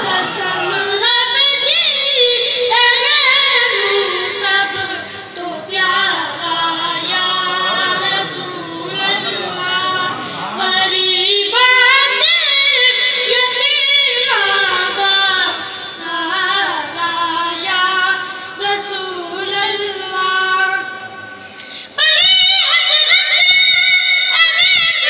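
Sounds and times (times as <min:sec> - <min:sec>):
boys singing into a microphone: 0:00.0 - 0:20.9.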